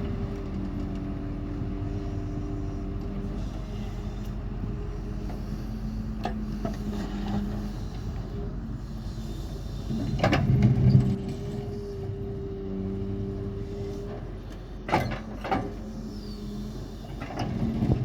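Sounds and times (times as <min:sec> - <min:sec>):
diesel excavator engine running: 0:00.0 - 0:18.0.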